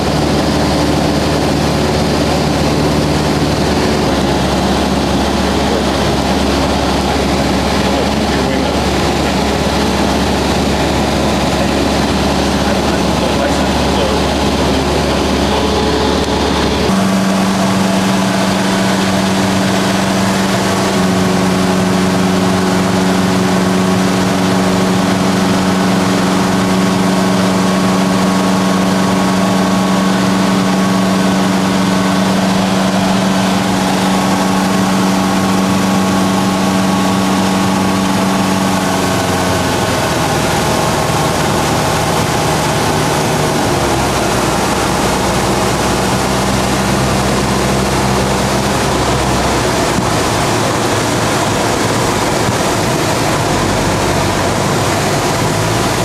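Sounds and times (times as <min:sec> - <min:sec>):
light aircraft engine droning: 0:00.0 - 0:56.0
rush of airflow: 0:00.0 - 0:56.0.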